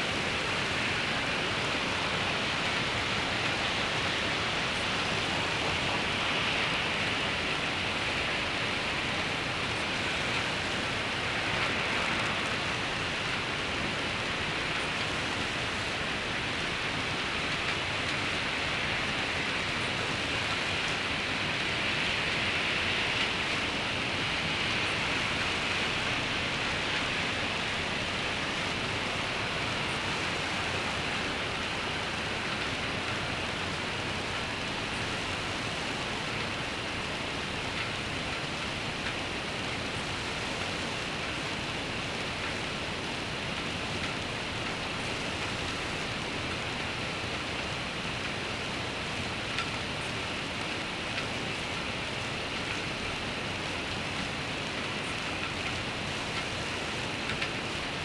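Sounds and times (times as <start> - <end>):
raindrops: 0.0 - 58.0
steady rain hiss: 0.0 - 58.0.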